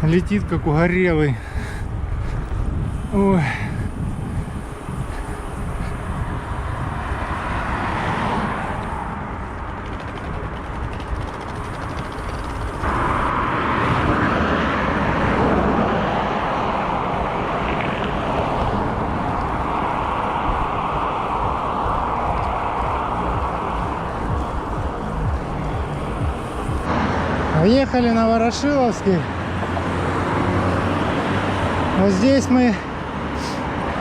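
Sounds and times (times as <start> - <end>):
traffic noise: 0.0 - 34.0
wind rushing over microphone: 0.0 - 34.0.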